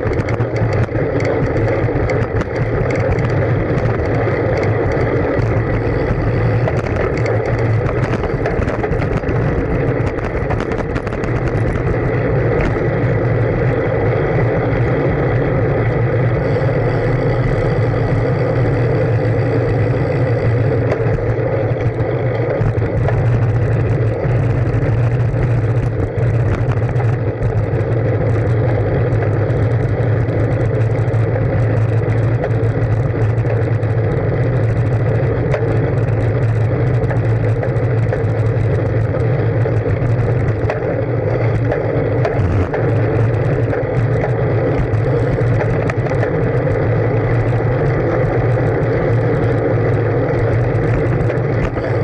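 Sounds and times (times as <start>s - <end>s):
wind and bicycle tyre noise: 0.0s - 52.0s.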